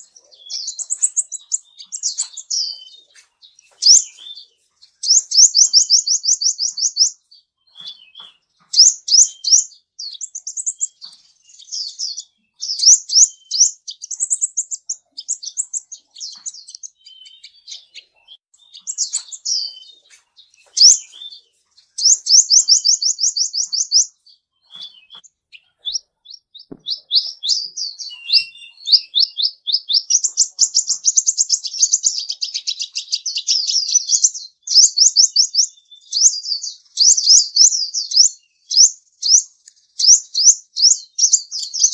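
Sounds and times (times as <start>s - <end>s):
songbird singing trills: 0.0s - 41.9s.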